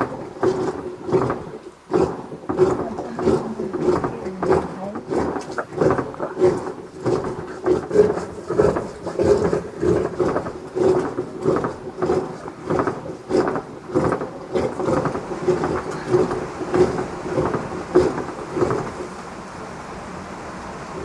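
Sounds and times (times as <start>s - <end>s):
rhythmic knocking with ringing tone: 0.0s - 18.9s.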